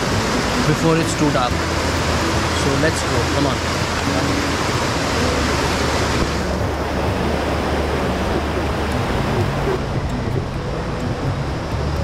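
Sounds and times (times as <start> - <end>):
river rushing: 0.0 - 12.0
wind rumble on microphone: 0.0 - 12.0.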